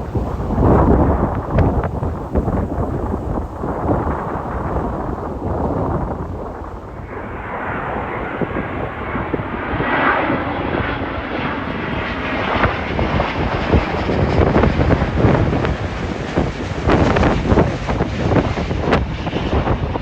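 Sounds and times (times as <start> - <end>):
jet airliner passing overhead: 0.0 - 20.0
wind buffeting microphone: 0.0 - 20.0.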